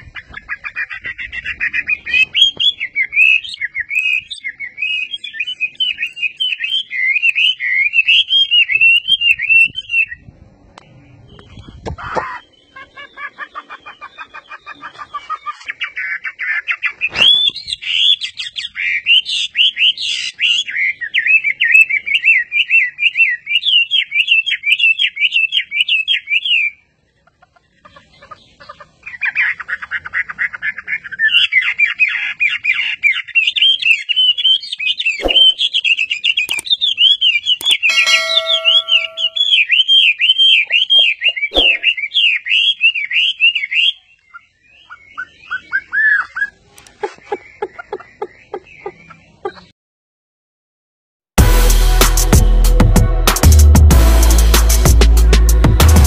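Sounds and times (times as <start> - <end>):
bird warbling song: 0.0 - 26.8, 27.6 - 49.7.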